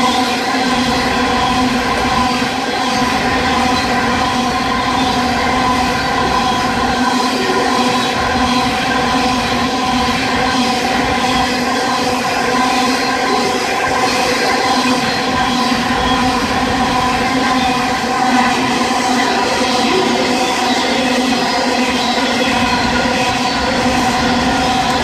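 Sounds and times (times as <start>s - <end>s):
constant tonal hum: 0.0s - 25.0s
train rail rumble: 3.1s - 25.0s.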